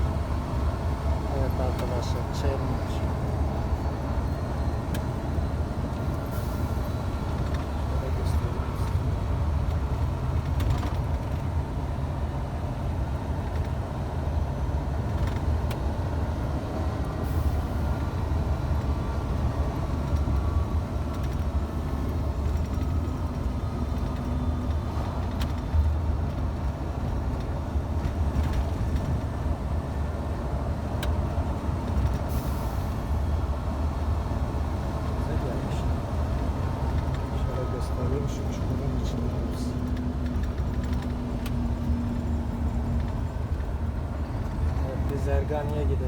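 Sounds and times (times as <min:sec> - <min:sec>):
truck diesel engine drone in cab: 0:00.0 - 0:46.0.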